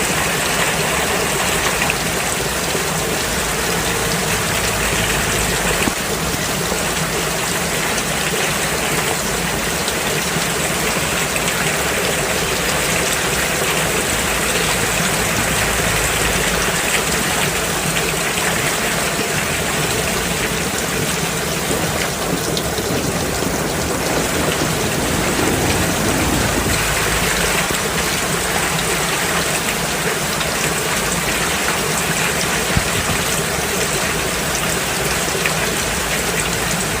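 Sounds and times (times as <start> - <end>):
heavy rain pattering: 0.0 - 37.0.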